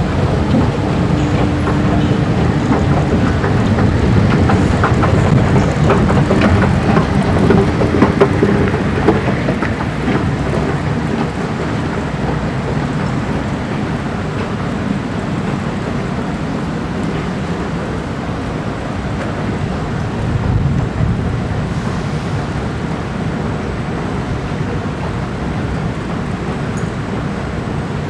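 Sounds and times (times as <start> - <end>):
electric train rumbling: 0.0 - 28.0
wheels clattering over track: 0.0 - 28.0.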